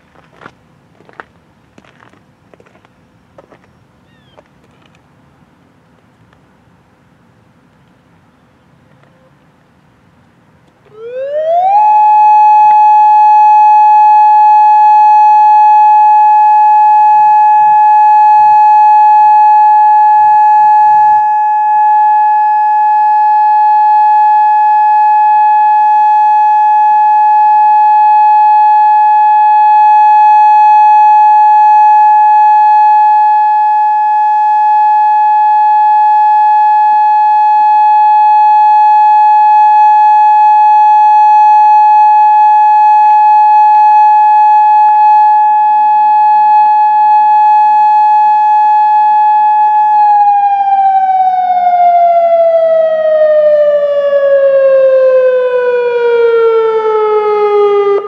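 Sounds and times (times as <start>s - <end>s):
warning siren steady tone: 10.8s - 58.0s.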